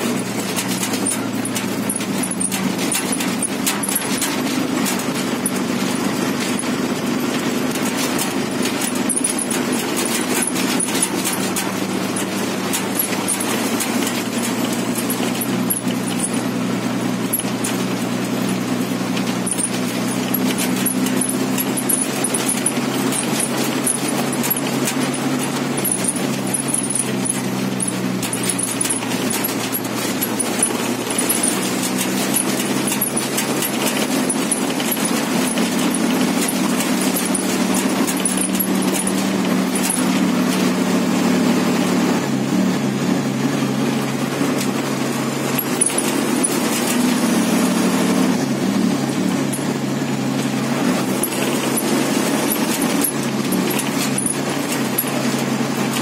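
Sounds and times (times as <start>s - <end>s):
bus body and windows rattling: 0.0s - 56.0s
bus diesel engine droning: 0.0s - 56.0s.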